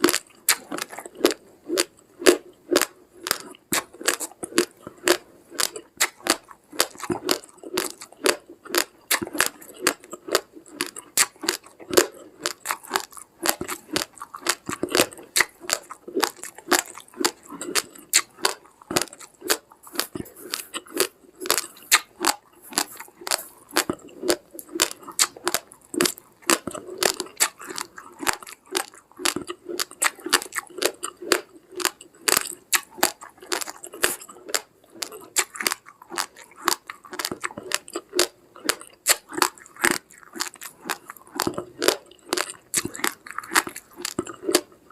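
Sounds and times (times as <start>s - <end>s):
person chewing raw rice: 0.0s - 44.9s.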